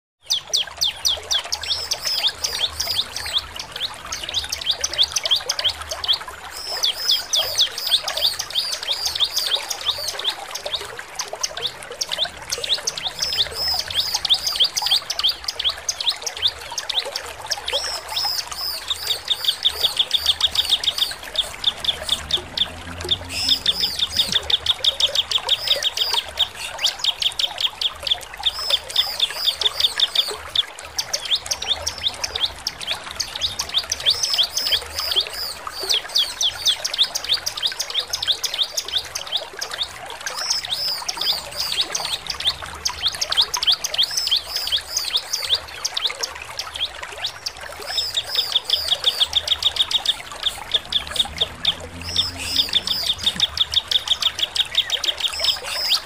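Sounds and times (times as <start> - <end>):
bird chirping song: 0.3 - 10.9, 11.5 - 56.0.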